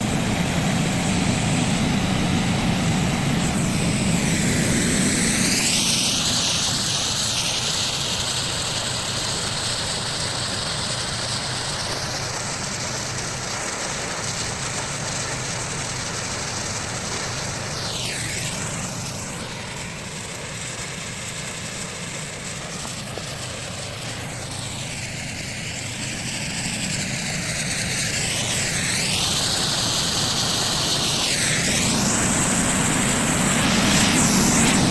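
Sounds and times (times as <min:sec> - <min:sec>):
hiss of spray: 0:00.0 - 0:34.9
snow-making machine fan whir: 0:00.0 - 0:34.9.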